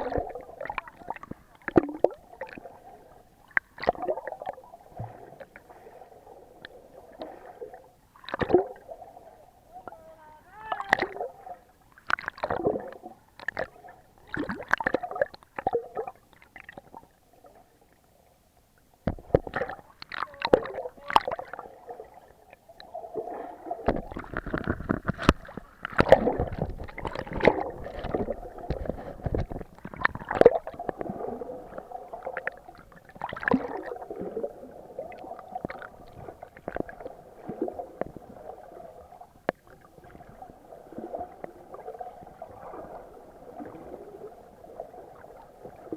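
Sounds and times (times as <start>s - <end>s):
muffled water gurgling and sloshing: 0.0s - 45.9s.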